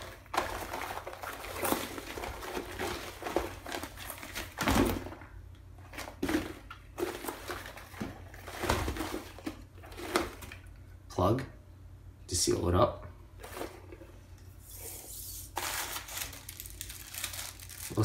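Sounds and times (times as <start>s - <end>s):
plastic rustling and crinkling: 0.0s - 10.7s, 13.4s - 18.0s.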